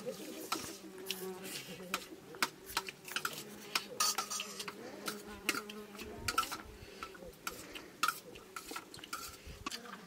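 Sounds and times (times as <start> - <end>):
spoons scraping metal plates: 0.0 - 2.1, 2.7 - 9.9.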